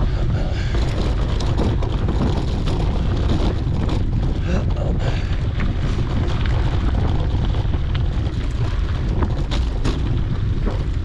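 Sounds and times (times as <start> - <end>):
tyres on dirt road: 0.0 - 11.0
wind buffeting microphone: 0.0 - 11.0.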